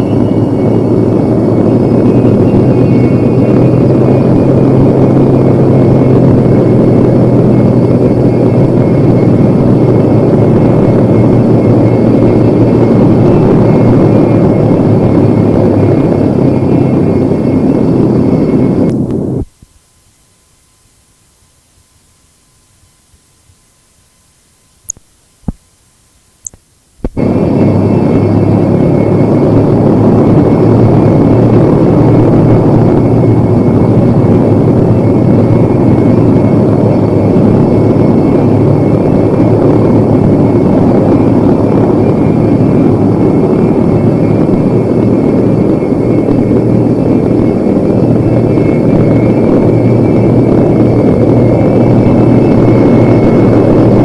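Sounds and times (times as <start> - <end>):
aircraft engine noise: 0.0 - 54.0
faint high whine: 0.0 - 54.0
faint steady tone: 0.0 - 54.0
low hum: 0.0 - 54.0.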